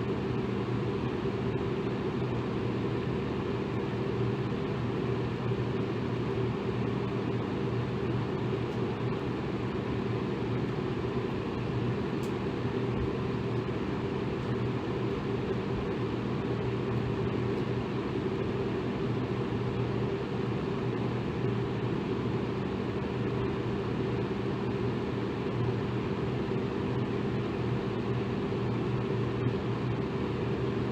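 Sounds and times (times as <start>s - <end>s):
electric fan air rush: 0.0s - 30.9s
faint motor hum: 0.0s - 30.9s.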